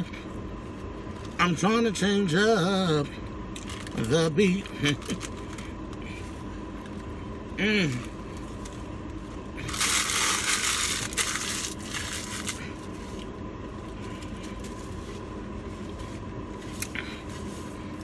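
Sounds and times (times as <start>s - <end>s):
faint high tone hum: 0.0s - 18.0s.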